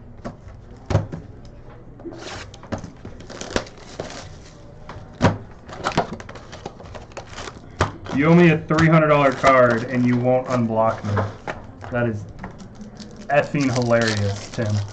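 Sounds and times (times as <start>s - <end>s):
cards rustling: 2.2s - 5.0s, 5.6s - 14.9s.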